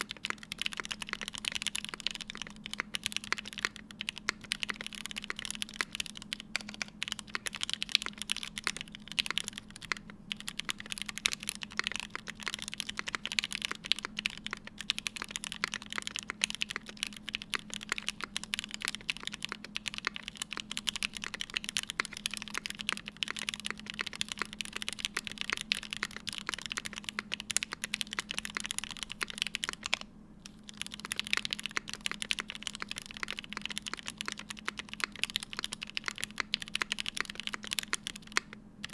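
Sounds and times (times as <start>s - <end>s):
faint steady hum: 0.0s - 38.9s
fast typing on mechanical keyboard: 0.0s - 38.9s.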